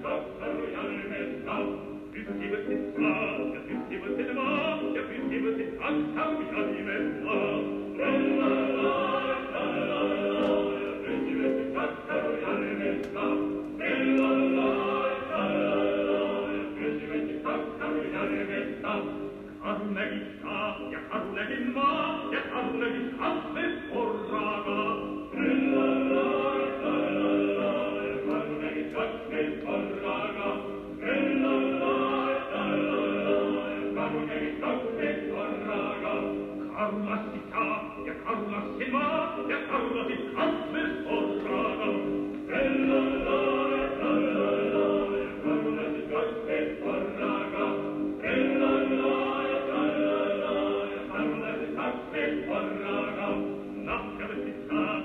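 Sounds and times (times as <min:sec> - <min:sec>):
musical accompaniment: 0:00.0 - 0:55.0
operatic male voice singing: 0:00.0 - 0:55.0.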